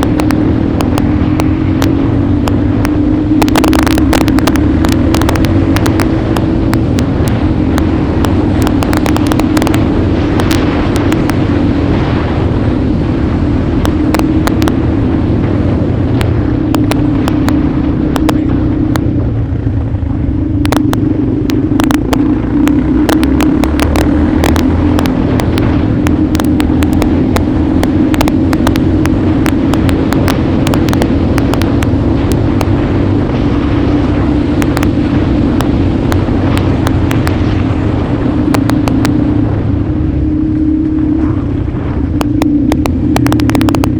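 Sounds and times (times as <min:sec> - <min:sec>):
sharp clicks and knocks: 0:00.0 - 0:11.8, 0:13.7 - 0:19.2, 0:20.6 - 0:39.3, 0:42.1 - 0:43.9
motorcycle engine running: 0:00.0 - 0:43.9.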